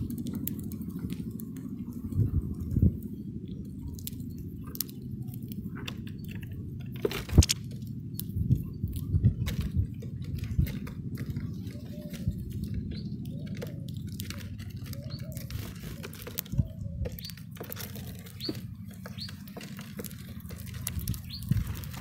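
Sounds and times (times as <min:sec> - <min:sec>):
birds cracking seeds: 0:00.0 - 0:22.0
steady low rumble: 0:00.0 - 0:22.0.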